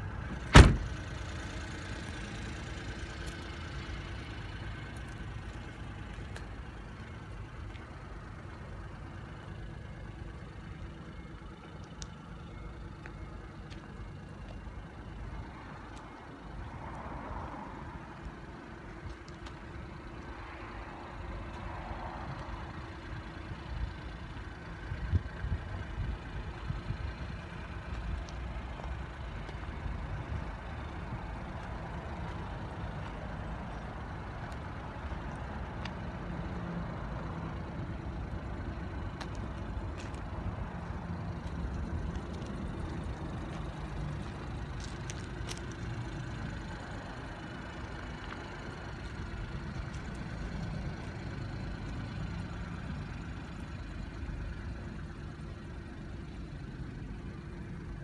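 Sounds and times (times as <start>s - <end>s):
small truck engine idling: 0.0s - 16.9s, 17.8s - 58.0s.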